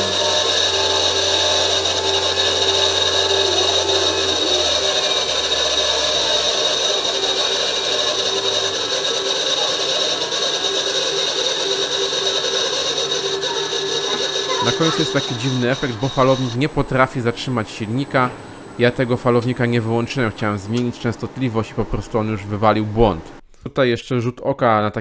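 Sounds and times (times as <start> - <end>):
high-pitched motor whine: 0.0 - 23.4
low motor hum: 0.0 - 23.4.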